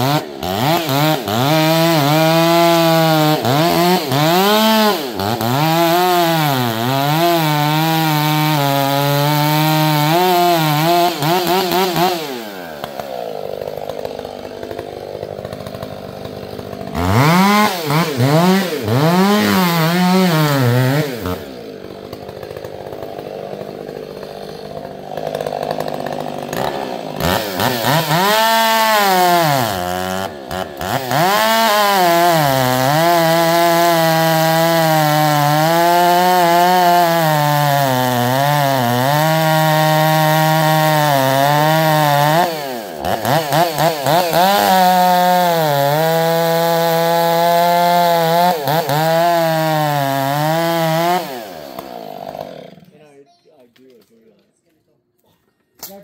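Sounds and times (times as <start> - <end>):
chainsaw revving and idling: 0.0 - 53.2
chainsaw cutting wood: 0.0 - 54.3.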